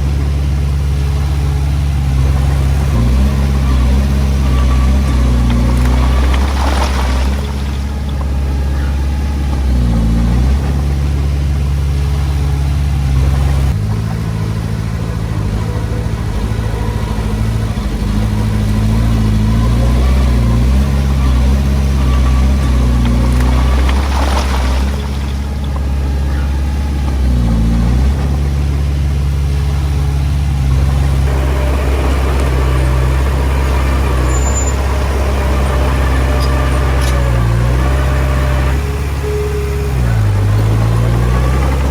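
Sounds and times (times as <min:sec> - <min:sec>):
diesel engine revving under load: 0:00.0 - 0:41.9.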